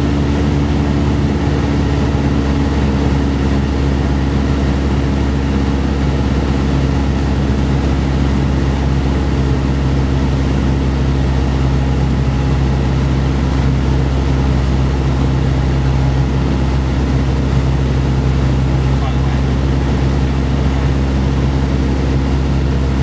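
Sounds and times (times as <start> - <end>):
airplane engine and propeller: 0.0 - 23.0.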